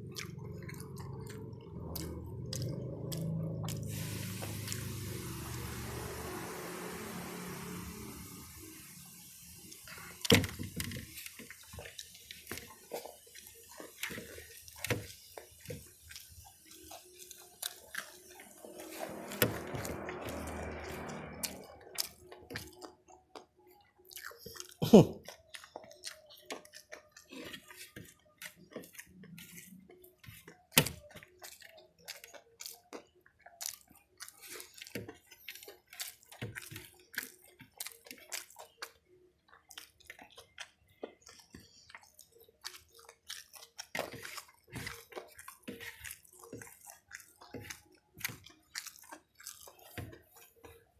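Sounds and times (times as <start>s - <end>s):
chewing crunchy food: 0.0s - 50.9s.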